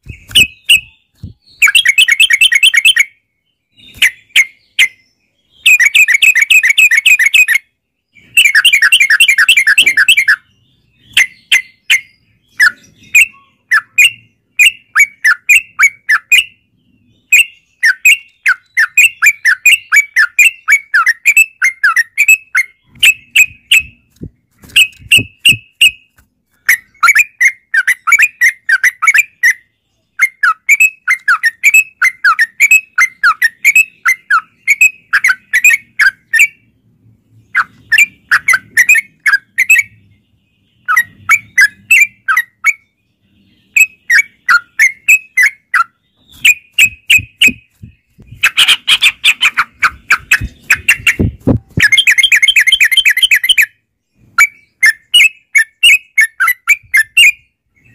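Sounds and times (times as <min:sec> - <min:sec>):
bird warbling song: 0:00.0 - 0:57.9.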